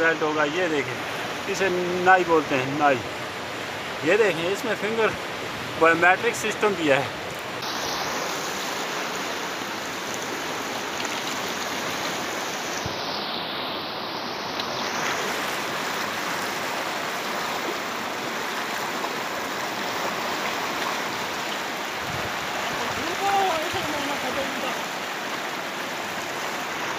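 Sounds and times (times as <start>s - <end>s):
river rushing over rocks: 0.0s - 26.9s.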